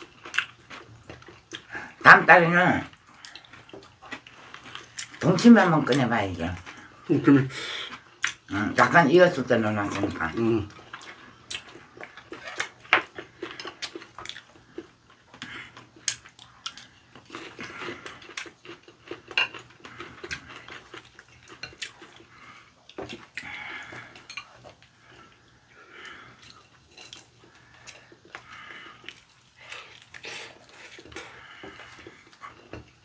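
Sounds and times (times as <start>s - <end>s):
soft chewing: 0.0s - 2.0s, 2.8s - 8.5s, 9.7s - 33.0s.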